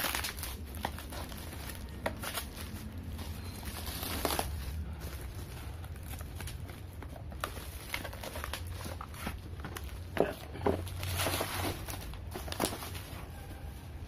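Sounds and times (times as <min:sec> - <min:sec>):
bubble wrap and plastic crinkling: 0:00.0 - 0:14.0.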